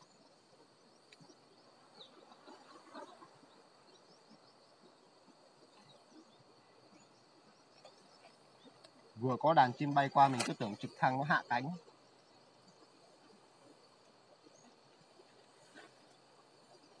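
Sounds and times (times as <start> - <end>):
faint whirr of wingbeats: 0.0 - 17.0
high insect hum: 0.0 - 17.0.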